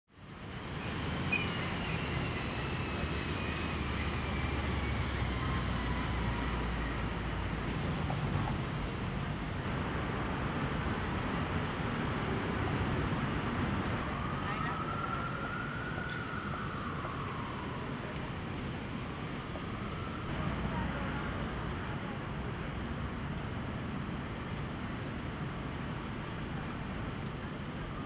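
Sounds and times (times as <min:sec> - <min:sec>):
hiss of passing vehicles: 0:00.2 - 0:27.6
rumble of car and truck engines: 0:00.2 - 0:28.0.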